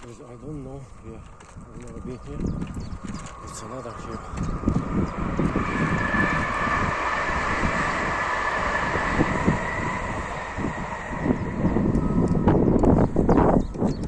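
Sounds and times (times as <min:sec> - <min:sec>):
steady high whine: 0:00.0 - 0:14.0
wind buffeting microphone: 0:00.0 - 0:14.0.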